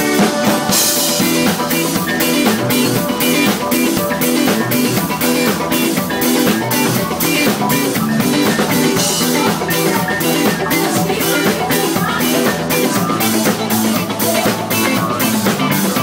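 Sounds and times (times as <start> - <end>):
drum kit beat: 0.0 - 16.0
rock band playing loud: 0.0 - 16.0.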